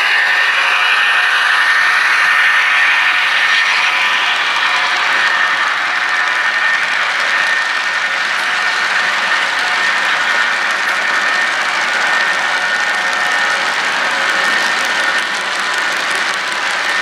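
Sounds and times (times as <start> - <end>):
model train wheels clattering: 0.0 - 17.0.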